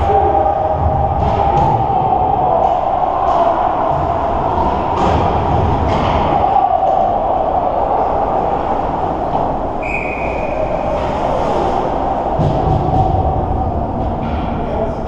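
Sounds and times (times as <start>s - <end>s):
ice rink rumble: 0.0s - 15.0s.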